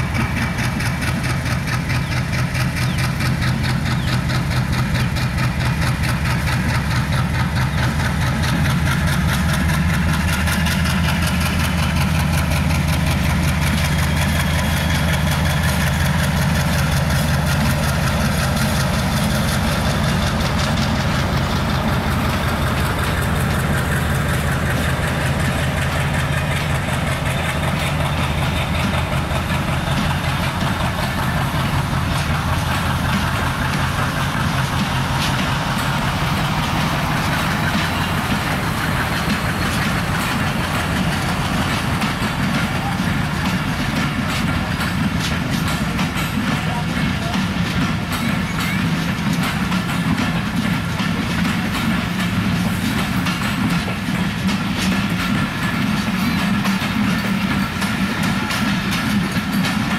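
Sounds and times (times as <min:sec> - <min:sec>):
locomotive engine low throb: 0:00.0 - 0:59.9.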